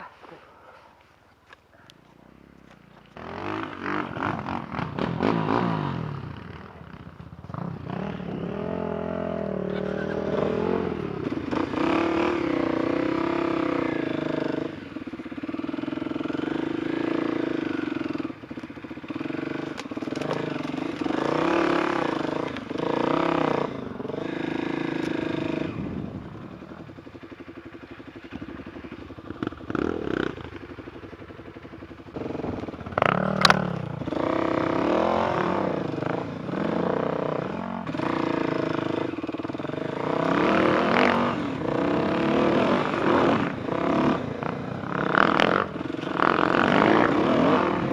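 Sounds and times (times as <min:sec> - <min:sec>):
motorcycle engine revving: 0:02.4 - 0:47.9.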